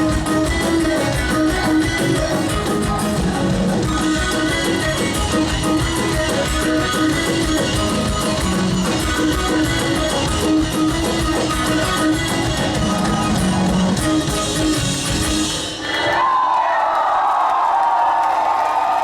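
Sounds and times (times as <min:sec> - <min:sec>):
bass guitar: 0:00.0 - 0:15.9
drum kit: 0:00.0 - 0:16.2
electric guitars: 0:00.0 - 0:16.2.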